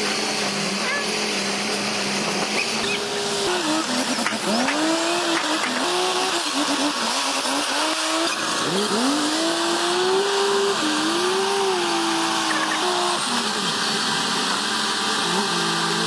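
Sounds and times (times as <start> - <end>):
machine engine revving: 0.0 - 16.0.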